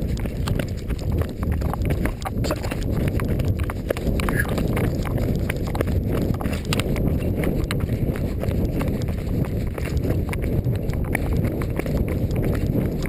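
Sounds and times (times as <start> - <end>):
running footsteps on dirt trail: 0.0 - 13.0
wind rumble on microphone: 0.0 - 13.0.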